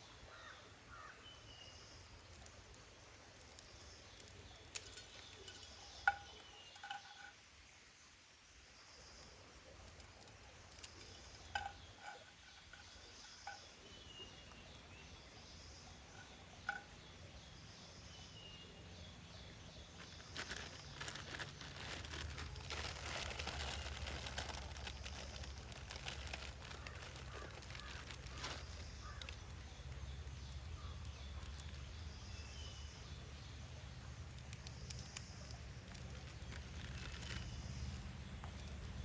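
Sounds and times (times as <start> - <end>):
faint steady hiss: 0.0 - 39.0.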